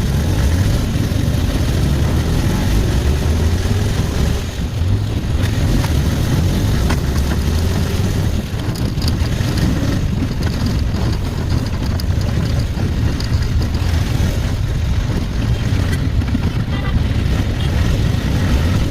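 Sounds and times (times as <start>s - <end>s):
vehicle engine and road noise: 0.0s - 18.9s.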